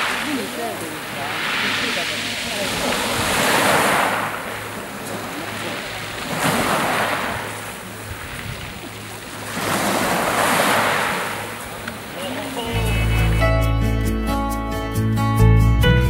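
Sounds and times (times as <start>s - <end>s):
waves washing over pebbles: 0.0s - 13.3s.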